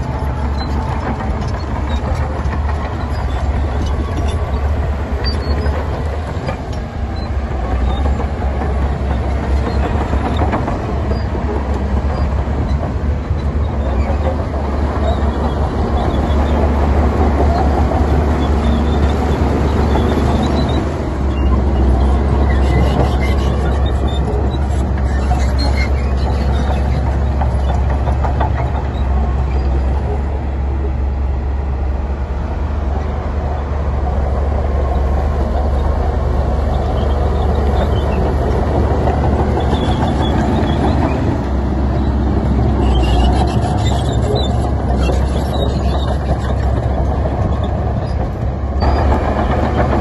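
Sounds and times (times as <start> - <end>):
heavy diesel machinery engine drone: 0.0 - 50.0
machinery clatter: 0.0 - 50.0.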